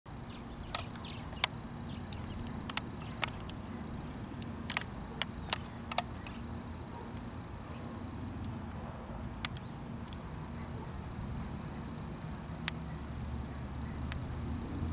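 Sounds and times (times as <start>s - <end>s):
distant jet engine rumble: 0.1s - 14.9s.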